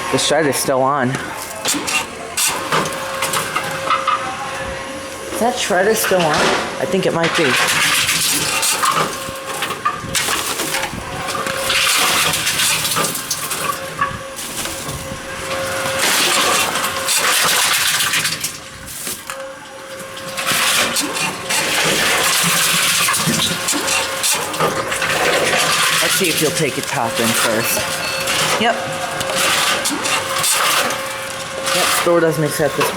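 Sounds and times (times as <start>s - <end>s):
machine hum: 0.0s - 32.9s
shredder noise bursts: 6.1s - 32.9s.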